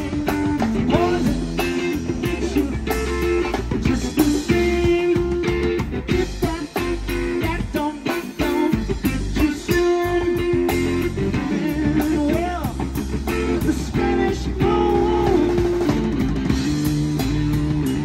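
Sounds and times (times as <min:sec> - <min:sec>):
bass guitar: 0:00.0 - 0:18.0
drum kit: 0:00.0 - 0:18.0
electric guitar lead: 0:00.0 - 0:18.0.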